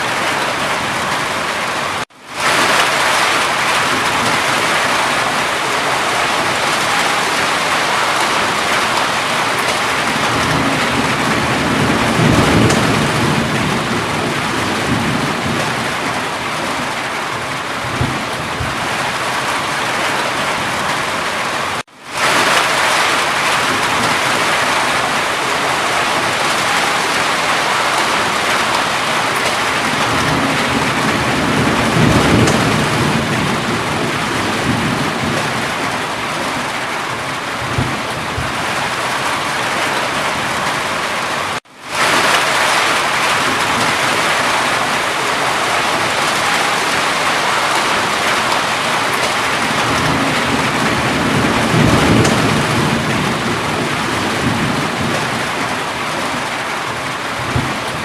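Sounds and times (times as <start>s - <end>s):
heavy rain: 0.0s - 58.0s
thunder rolling: 0.0s - 58.0s.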